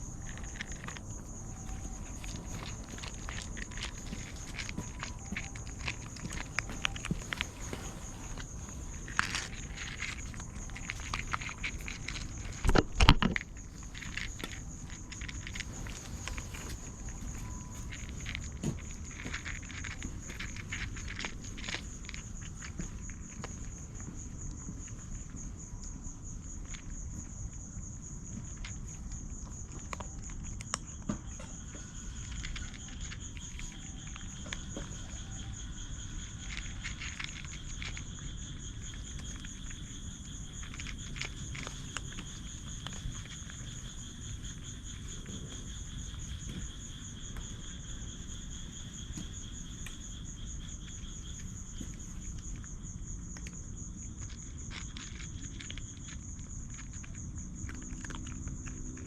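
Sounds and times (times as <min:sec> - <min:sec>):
small clicks and rustles: 0:00.0 - 0:25.7, 0:26.4 - 0:59.0
high pulsing insect trill: 0:00.0 - 0:59.0
lower insect trill: 0:00.0 - 0:59.0.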